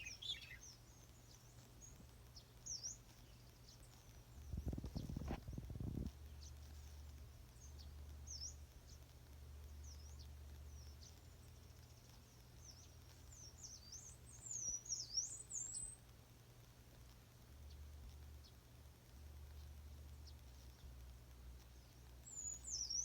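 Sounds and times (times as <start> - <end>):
faint low hum: 0.0 - 23.0
wild birds chirping: 0.0 - 23.0.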